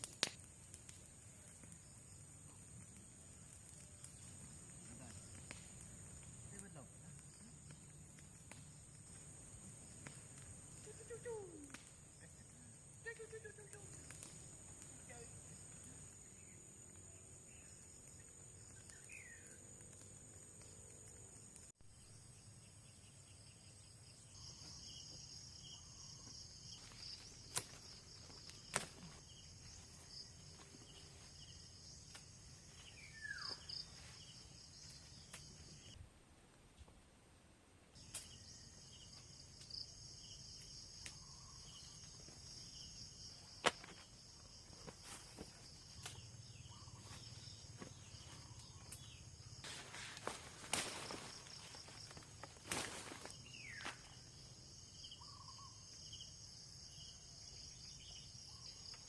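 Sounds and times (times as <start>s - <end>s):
insects trilling: 0.0s - 36.0s, 37.9s - 59.0s.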